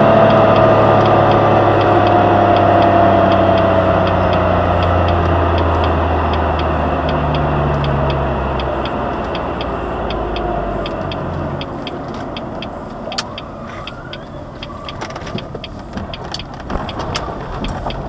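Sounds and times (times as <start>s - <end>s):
car engine hum: 0.0s - 18.0s
turn signal ticking: 0.0s - 18.0s.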